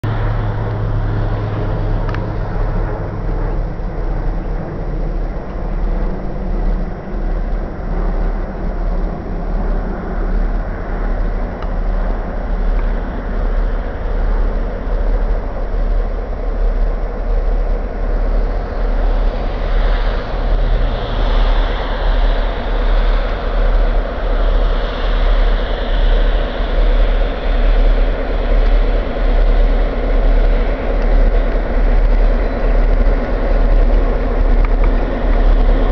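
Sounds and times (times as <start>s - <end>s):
freight train rumbling by: 0.0s - 35.9s.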